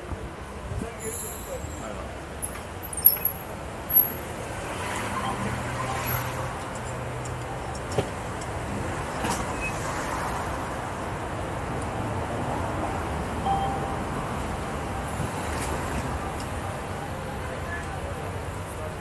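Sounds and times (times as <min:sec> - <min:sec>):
street traffic noise: 0:00.0 - 0:19.0
vehicle engine humming: 0:02.2 - 0:18.9.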